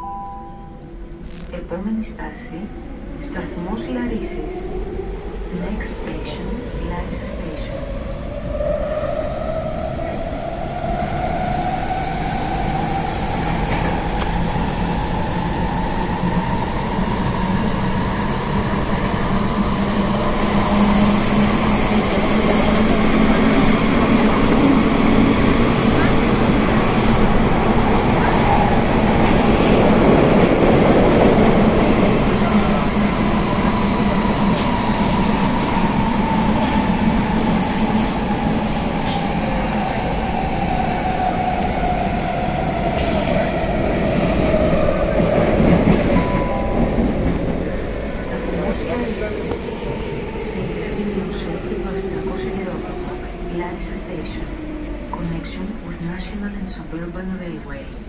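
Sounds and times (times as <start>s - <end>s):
train wheels rumbling on rails: 9.8s - 58.0s.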